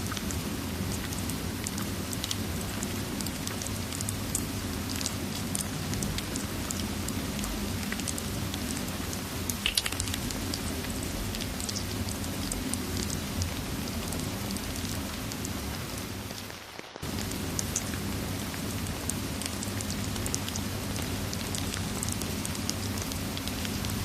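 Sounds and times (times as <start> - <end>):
crackling fireplace: 0.0 - 24.0
steady rain: 0.0 - 24.0.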